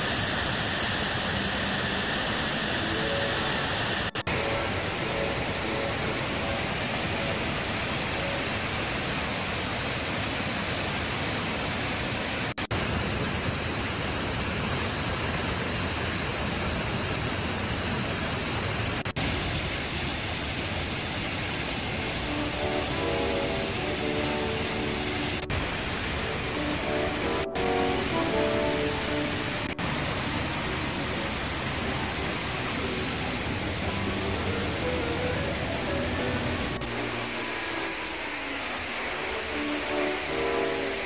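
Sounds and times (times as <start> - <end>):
rushing whitewater: 0.0 - 41.0.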